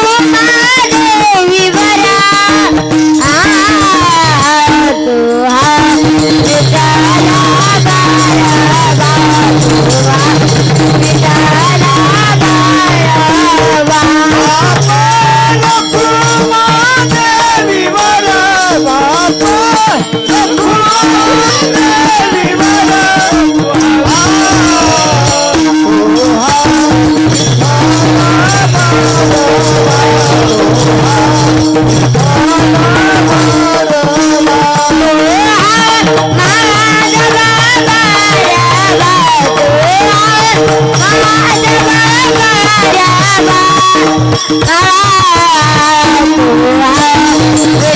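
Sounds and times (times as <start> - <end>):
rattling hand percussion: 0.0 - 47.9.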